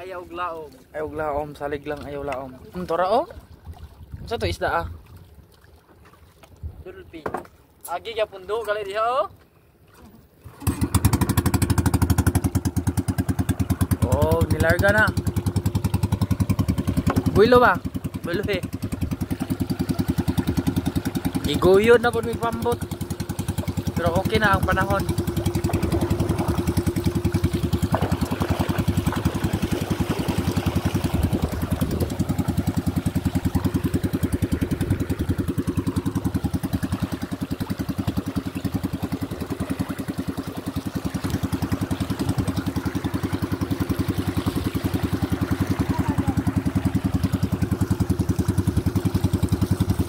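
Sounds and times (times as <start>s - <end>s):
boat engine running steadily: 0.0s - 50.0s.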